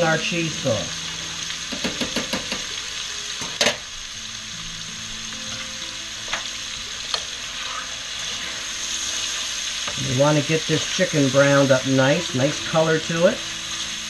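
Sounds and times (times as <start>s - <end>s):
chicken sizzling in skillet: 0.0s - 14.0s.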